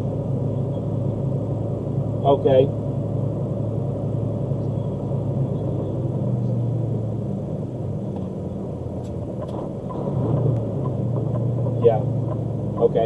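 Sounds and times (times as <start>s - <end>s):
road noise: 0.0s - 13.0s
vehicle engine humming: 0.0s - 13.0s.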